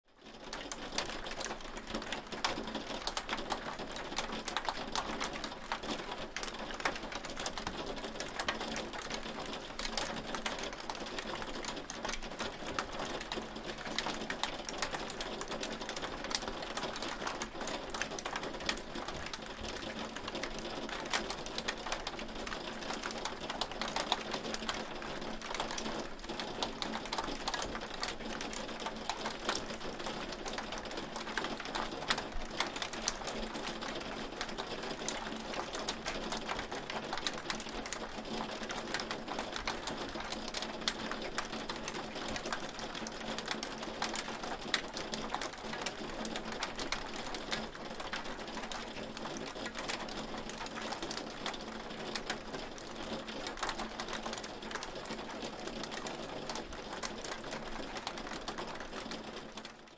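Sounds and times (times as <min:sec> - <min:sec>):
hail pattering on hard surface: 0:00.4 - 0:59.8.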